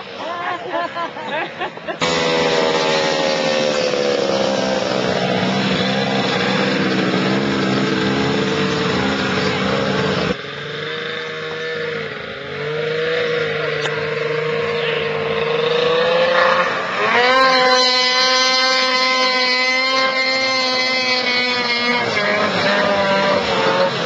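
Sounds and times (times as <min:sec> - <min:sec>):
snowmobile engine running hard: 0:00.0 - 0:24.0.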